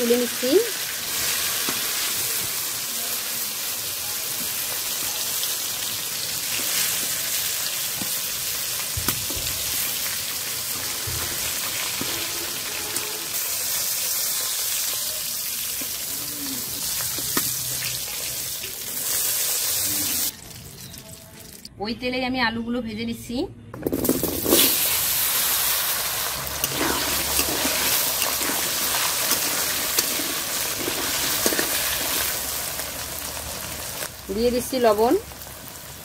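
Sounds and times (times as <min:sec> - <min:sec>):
frying in hot oil: 0:00.0 - 0:21.7, 0:24.0 - 0:36.0.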